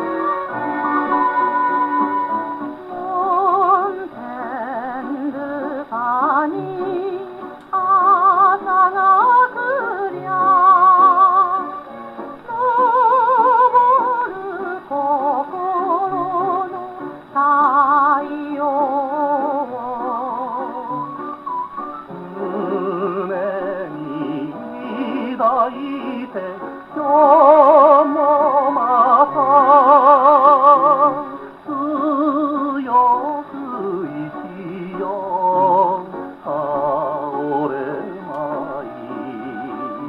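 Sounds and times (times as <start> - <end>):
gramophone record playing: 0.0 - 40.0
instrumental accompaniment: 0.0 - 40.0.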